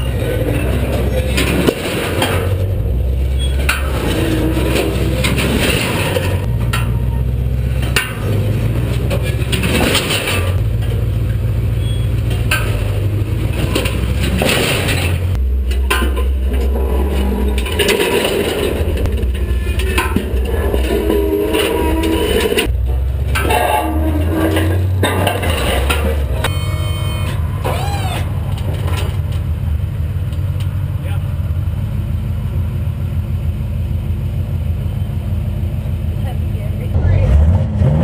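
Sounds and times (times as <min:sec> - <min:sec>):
metal clanks and scrapes: 0:00.0 - 0:30.7
engine running under load: 0:00.0 - 0:38.0.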